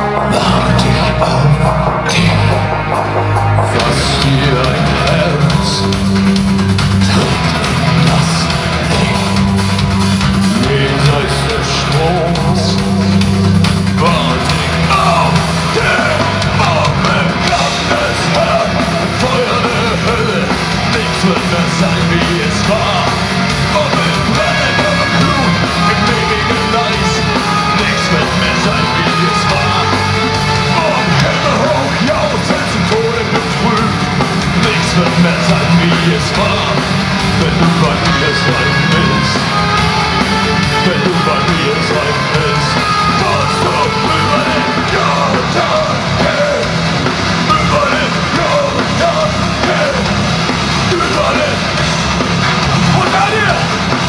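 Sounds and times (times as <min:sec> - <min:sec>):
person singing: 0:00.0 - 0:06.0, 0:06.9 - 0:09.6, 0:10.4 - 0:13.2, 0:14.0 - 0:50.2
bass guitar: 0:00.0 - 0:54.0
distorted electric guitars: 0:00.0 - 0:54.0
drum kit: 0:00.0 - 0:54.0.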